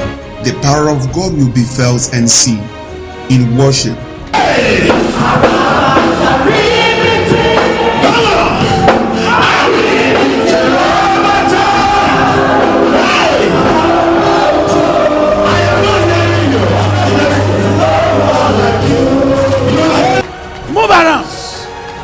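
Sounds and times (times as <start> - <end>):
gospel worship music: 0.0 - 22.0
choir singing: 4.3 - 22.0.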